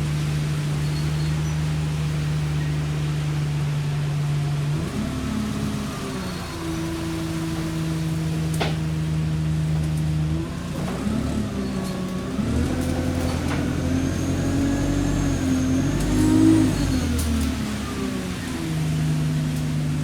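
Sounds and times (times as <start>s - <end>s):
bus diesel engine: 0.0s - 20.0s.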